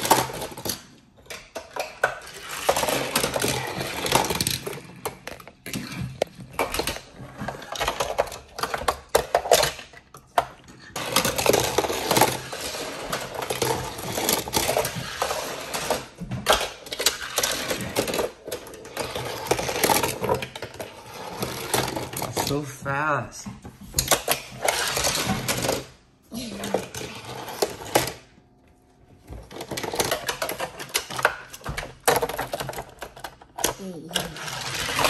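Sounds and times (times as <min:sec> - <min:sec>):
toy cars clattering on plastic track: 0:00.0 - 0:22.7, 0:23.9 - 0:28.4, 0:29.2 - 0:35.0.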